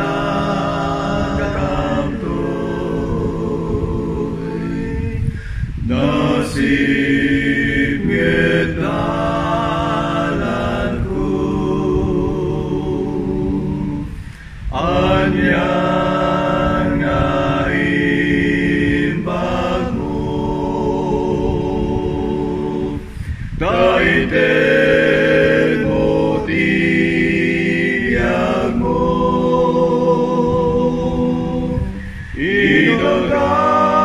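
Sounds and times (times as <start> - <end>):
man singing multitracked harmonies: 0.0 - 34.0.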